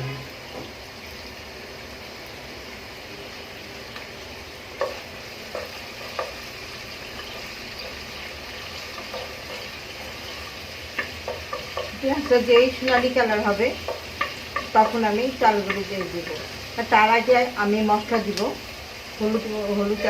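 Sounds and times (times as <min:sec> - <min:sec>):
onion sizzling in hot oil: 0:00.0 - 0:20.0.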